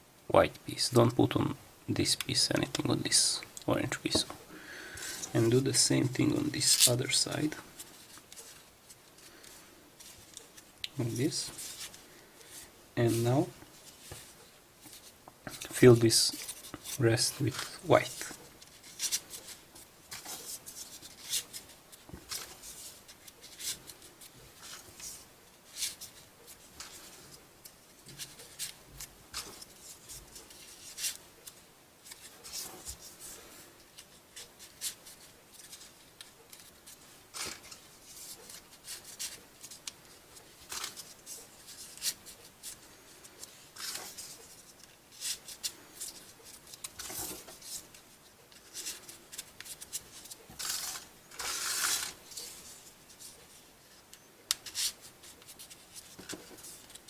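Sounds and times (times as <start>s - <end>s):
paper rustling and crinkling: 2.1s - 57.0s.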